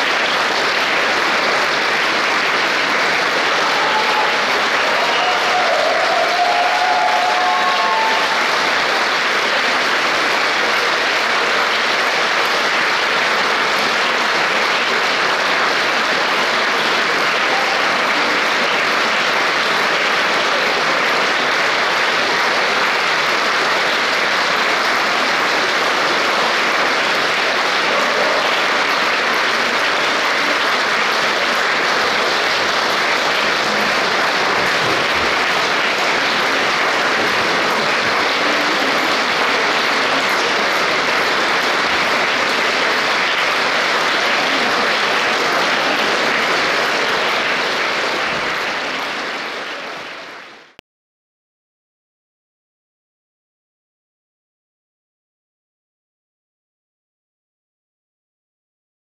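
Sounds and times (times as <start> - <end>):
audience applauding: 0.0 - 50.8.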